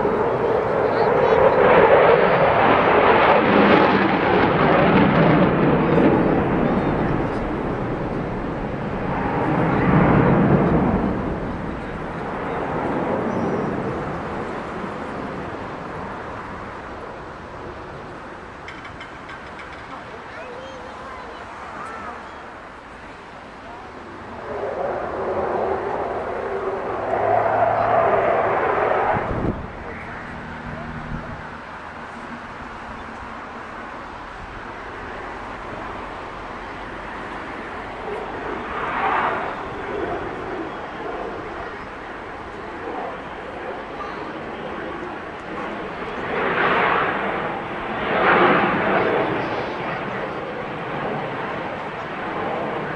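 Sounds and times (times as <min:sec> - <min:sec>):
distant jet engine rushing: 0:00.0 - 0:52.9.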